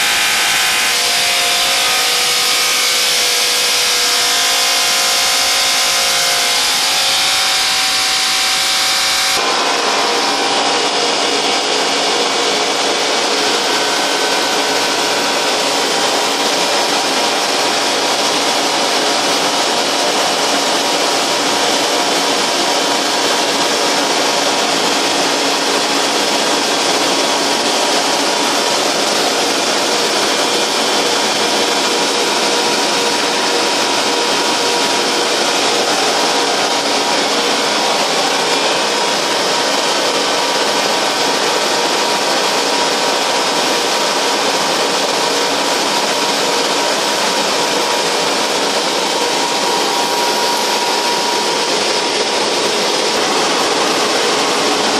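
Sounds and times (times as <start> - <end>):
chipper-shredder running: 0.0 - 54.9.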